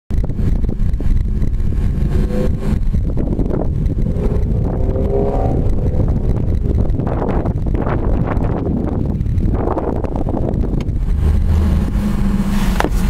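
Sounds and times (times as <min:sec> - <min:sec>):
wind rumbling on microphone: 0:00.1 - 0:13.0
car engine rising in pitch: 0:00.2 - 0:13.0.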